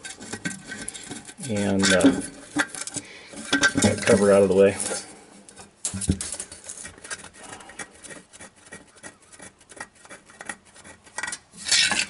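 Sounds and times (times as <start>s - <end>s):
hands scraping metal cover: 0.0s - 12.0s.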